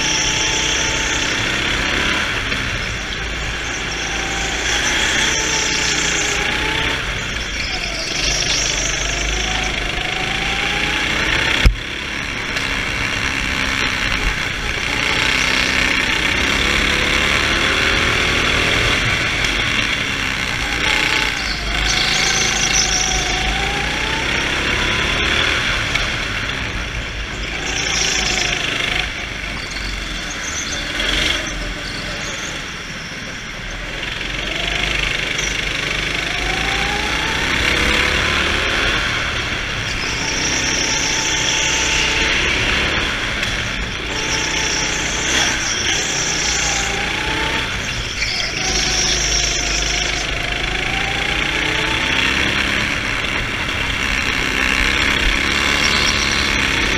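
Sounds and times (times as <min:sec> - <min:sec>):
go-kart engine revving: 0:00.0 - 0:56.9.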